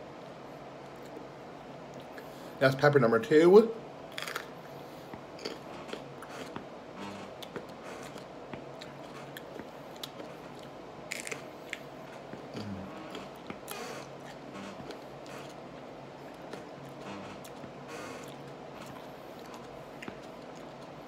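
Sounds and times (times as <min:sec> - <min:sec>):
person chewing with wet crunching: 0:00.8 - 0:02.3, 0:04.1 - 0:21.0.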